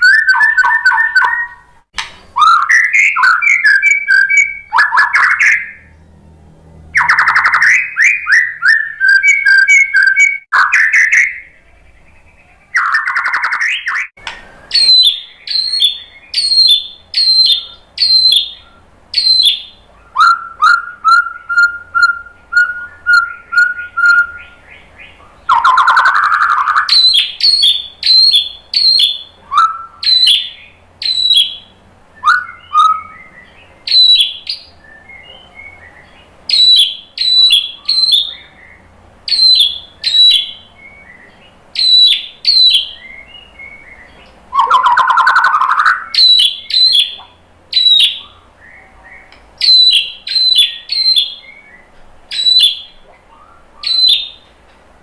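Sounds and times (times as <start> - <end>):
songbird singing whistled phrases: 0.0 - 6.0, 7.0 - 54.5.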